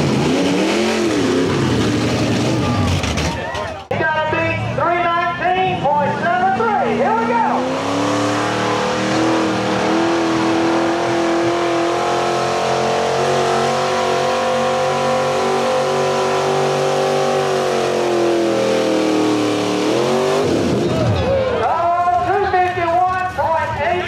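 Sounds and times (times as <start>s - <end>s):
truck engine revving: 0.0s - 4.8s, 5.7s - 22.4s.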